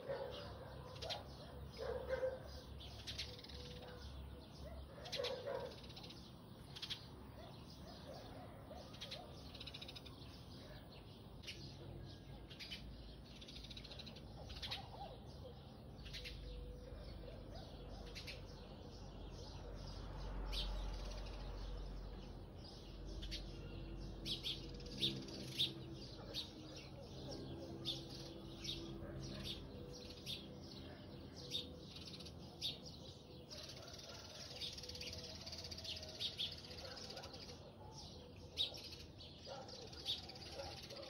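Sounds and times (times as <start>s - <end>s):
small birds chirping: 0.0s - 41.0s
swallows calling: 0.0s - 41.0s.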